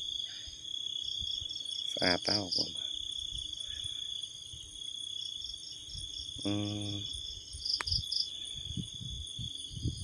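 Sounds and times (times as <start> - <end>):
crickets trilling: 0.0 - 10.0
insect pulsed chirp: 0.0 - 10.0.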